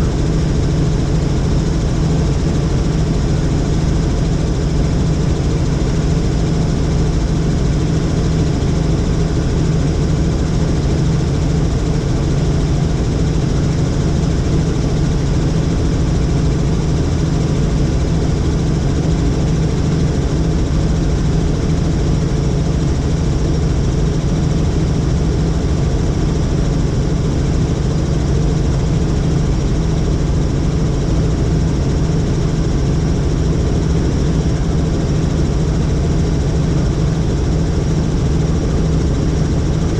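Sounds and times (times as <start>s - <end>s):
helicopter drone: 0.0s - 39.9s.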